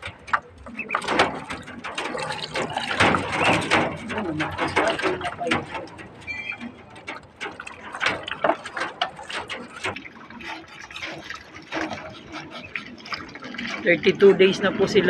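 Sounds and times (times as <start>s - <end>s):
bills slurping water: 0.0s - 15.0s
ducklings splashing in water: 0.0s - 15.0s.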